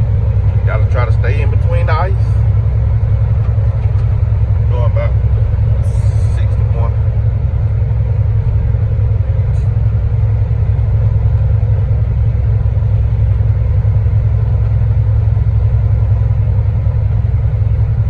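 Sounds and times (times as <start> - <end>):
road rumble: 0.0 - 18.0
truck diesel engine drone: 0.0 - 18.0.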